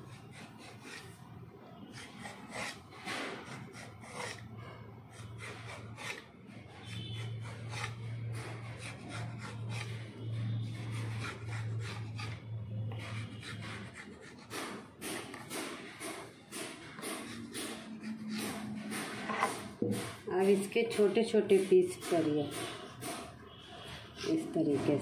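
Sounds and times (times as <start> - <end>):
knife cutting dough on metal plate: 0.0 - 25.0.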